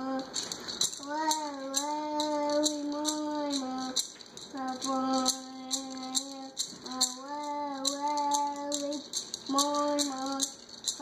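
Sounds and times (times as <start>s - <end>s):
handheld rattle shaking: 0.0s - 11.0s
boy singing long notes: 1.0s - 10.6s.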